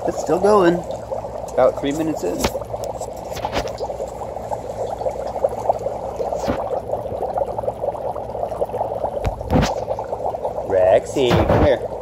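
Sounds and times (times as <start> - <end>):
dry ice bubbling in water: 0.0 - 12.0.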